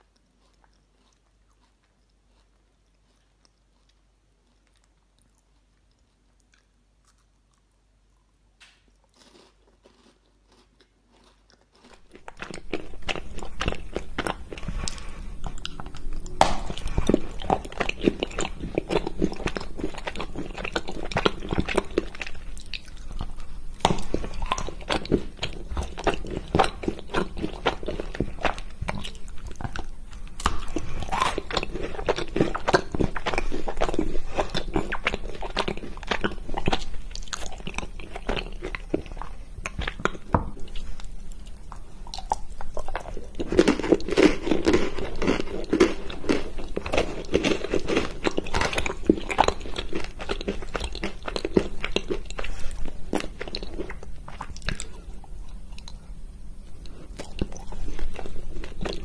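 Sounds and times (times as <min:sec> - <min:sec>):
chocolate biting and chewing: 0:00.0 - 0:56.0, 0:56.8 - 0:59.0.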